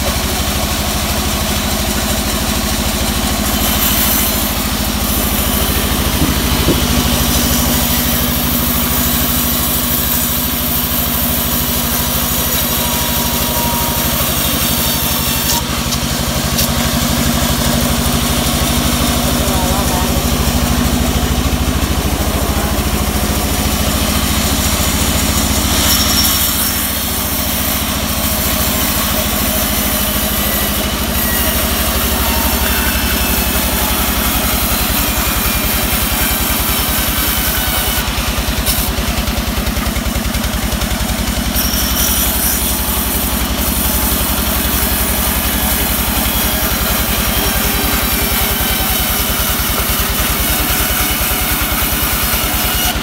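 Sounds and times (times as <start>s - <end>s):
band saw machine drone: 0.0s - 53.0s
saw blade hissing through log: 1.2s - 53.0s.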